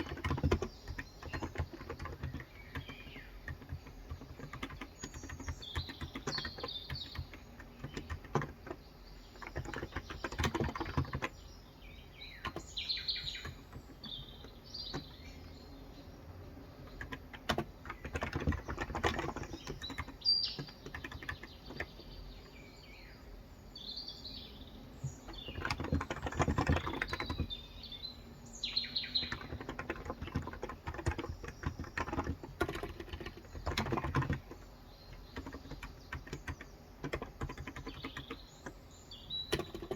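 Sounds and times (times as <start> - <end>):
keyboard typing: 0.0 - 11.4, 12.3 - 15.6, 16.8 - 22.0, 25.0 - 27.6, 29.1 - 39.9
birds chirping: 0.0 - 39.9.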